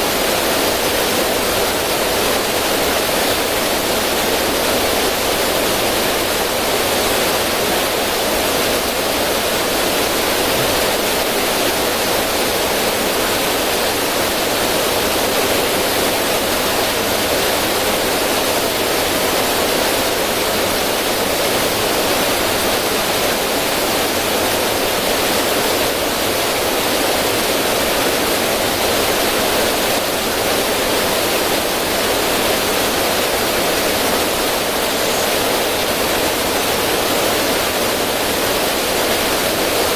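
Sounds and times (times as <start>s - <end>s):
river water running over rocks: 0.0s - 39.9s.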